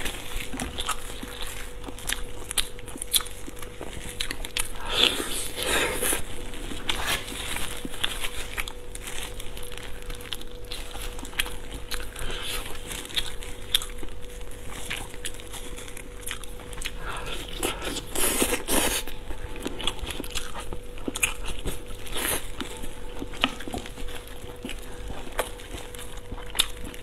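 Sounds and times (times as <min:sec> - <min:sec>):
biting and chewing ribs: 0:00.0 - 0:27.0
faint steady hum: 0:00.0 - 0:27.0.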